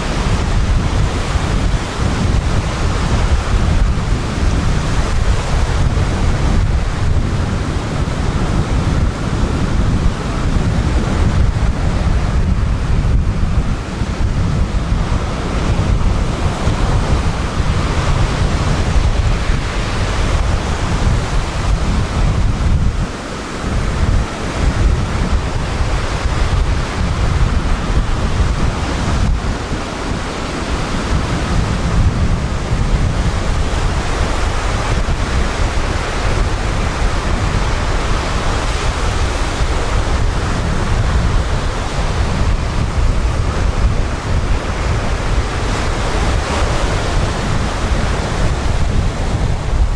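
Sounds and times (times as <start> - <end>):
surf breaking on a beach: 0.0 - 49.9
wind rumble on microphone: 0.0 - 49.9.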